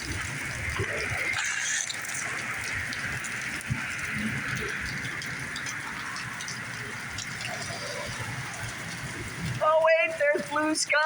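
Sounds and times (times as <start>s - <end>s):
rain falling: 0.0s - 11.0s
storm water running: 0.0s - 11.0s.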